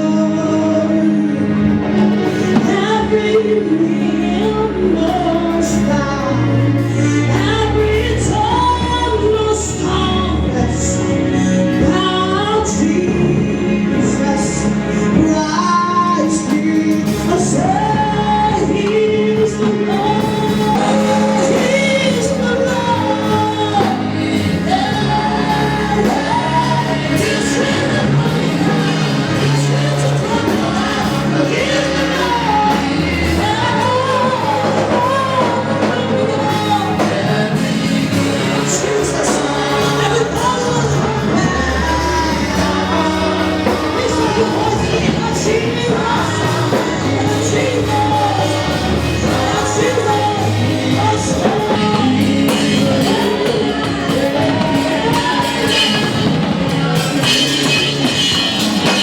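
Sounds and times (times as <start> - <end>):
gospel band with bass: 0.0 - 59.0
person singing: 0.0 - 59.0.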